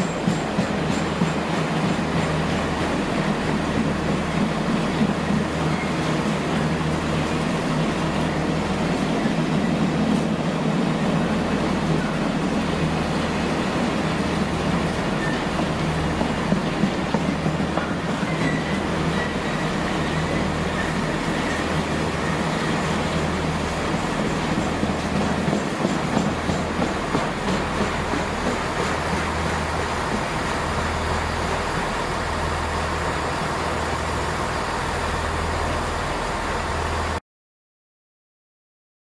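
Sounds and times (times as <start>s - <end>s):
freight train rumbling on rails: 0.0s - 37.2s.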